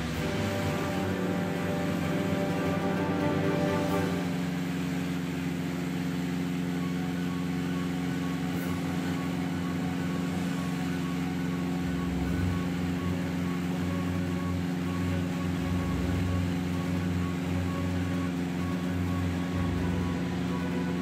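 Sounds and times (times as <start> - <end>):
twin-engine airplane drone: 0.0 - 21.0.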